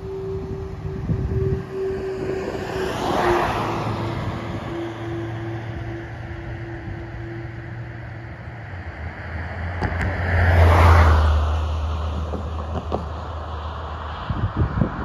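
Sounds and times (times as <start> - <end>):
car passing by: 0.0 - 15.0.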